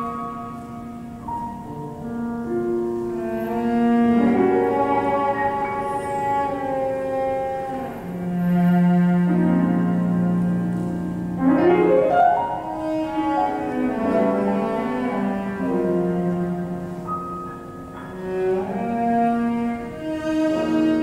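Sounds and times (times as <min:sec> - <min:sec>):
cello and piano chamber music: 0:00.0 - 0:21.0.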